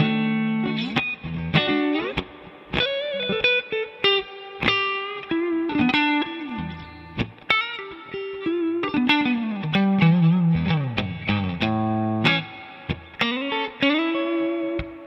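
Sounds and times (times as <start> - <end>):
electric guitar melody: 0.0 - 15.0.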